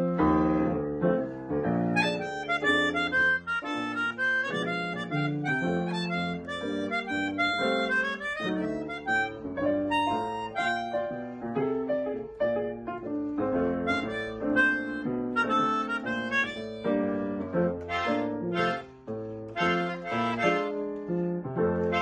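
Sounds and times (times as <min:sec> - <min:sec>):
reedy instrumental music: 0:00.0 - 0:22.0.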